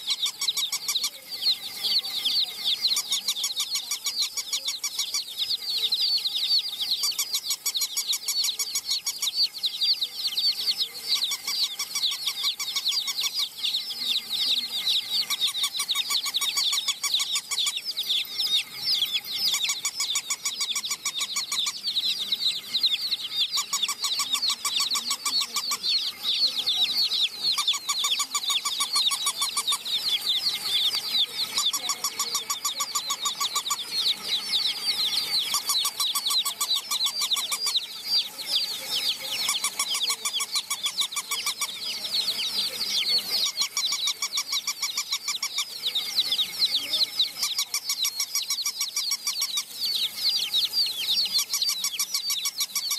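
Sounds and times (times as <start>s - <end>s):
baby chicks peeping: 0.0s - 52.9s.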